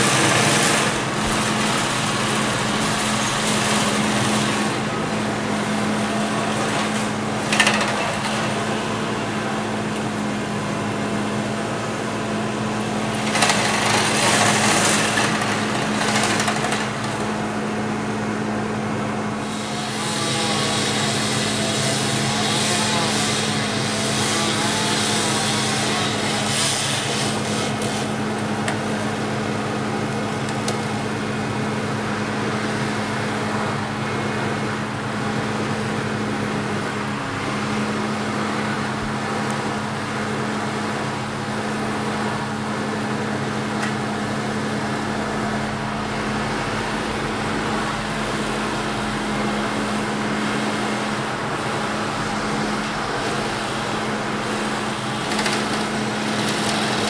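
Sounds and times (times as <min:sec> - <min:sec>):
truck engine humming: 0:00.0 - 0:57.0.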